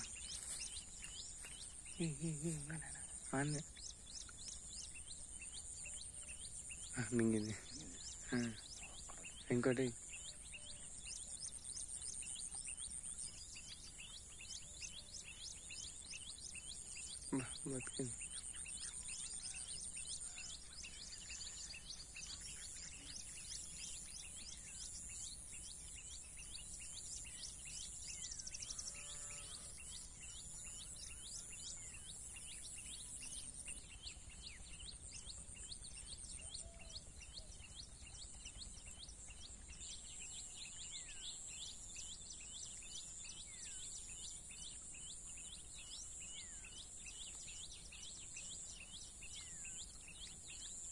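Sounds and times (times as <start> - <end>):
bird chirps: 0.0 - 50.9.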